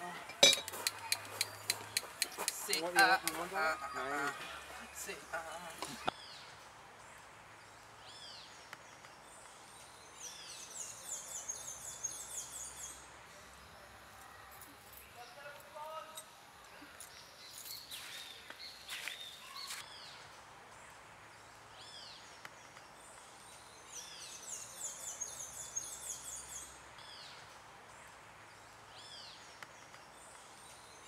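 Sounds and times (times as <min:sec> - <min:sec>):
wild birds chirping: 0:00.0 - 0:31.0.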